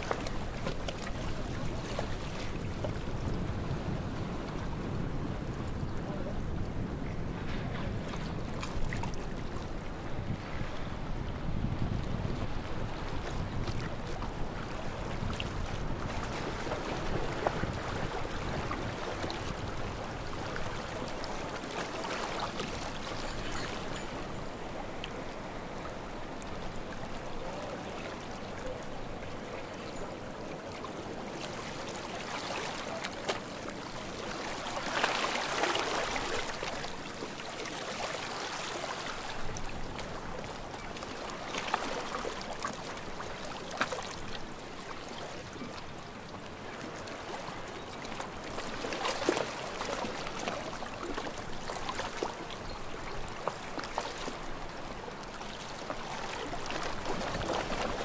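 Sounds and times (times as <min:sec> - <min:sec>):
small waves lapping at shore: 0:00.0 - 0:58.0.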